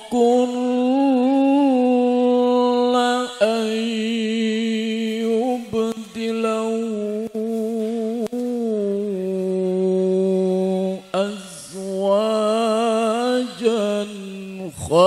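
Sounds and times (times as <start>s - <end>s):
man reciting melodically into microphone: 0.0s - 15.0s.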